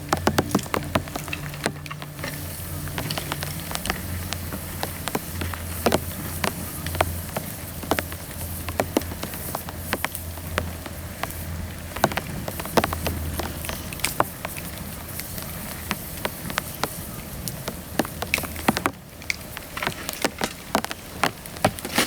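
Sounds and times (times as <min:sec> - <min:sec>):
bamboo fire crackling and popping: 0:00.0 - 0:22.0
steady low hum: 0:00.0 - 0:22.0.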